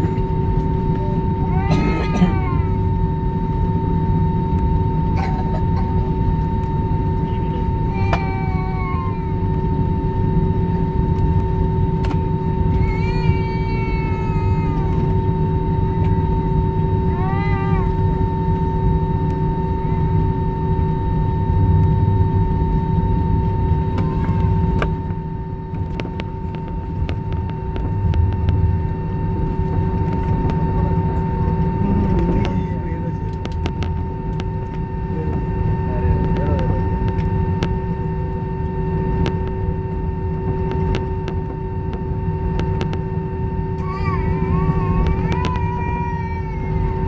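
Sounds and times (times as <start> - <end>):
airliner cabin rumble: 0.0 - 47.0
constant hum tones: 0.0 - 47.0.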